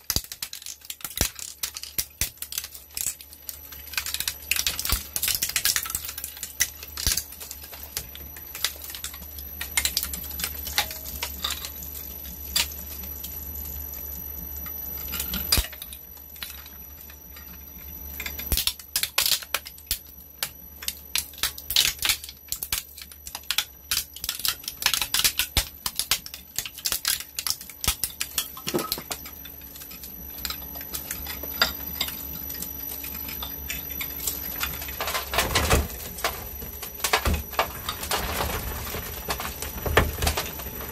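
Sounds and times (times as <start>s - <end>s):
plastic cracking and snapping: 0.0s - 13.3s, 18.2s - 40.9s
shredder motor hum: 0.0s - 40.9s.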